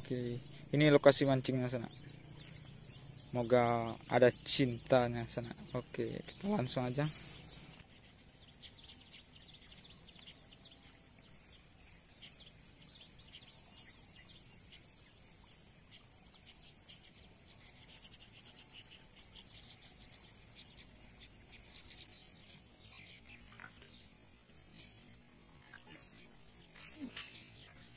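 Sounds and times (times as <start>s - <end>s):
short bird or insect chirps: 0.0s - 27.9s.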